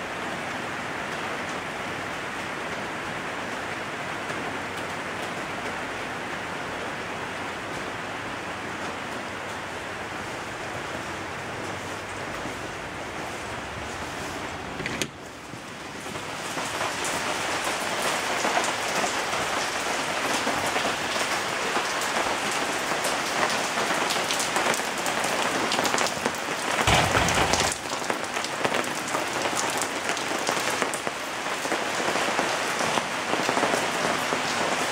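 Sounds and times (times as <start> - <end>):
rain pattering on pavement: 0.0 - 34.9.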